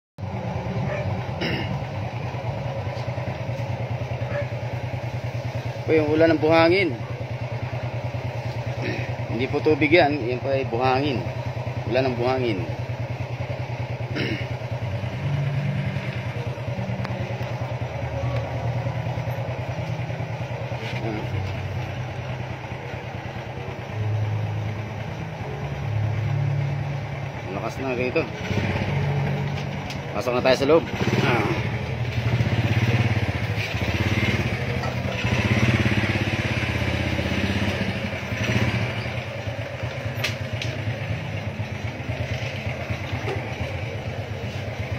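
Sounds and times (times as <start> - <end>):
small engine idling: 0.2 - 44.9.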